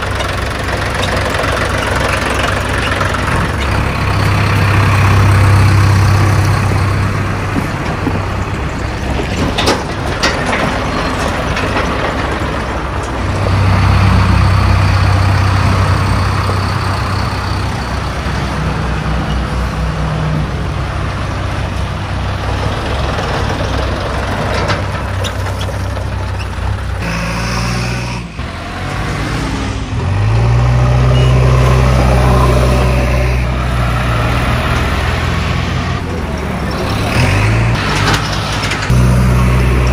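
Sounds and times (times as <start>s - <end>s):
diesel engine driving past: 0.0s - 9.2s, 12.4s - 39.9s
tractor engine: 0.0s - 39.9s.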